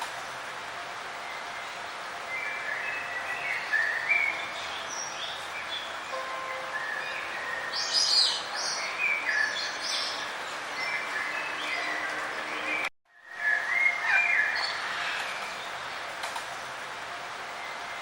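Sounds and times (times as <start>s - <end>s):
outdoor background hiss: 0.0s - 18.0s
songbirds chirping: 0.1s - 18.0s.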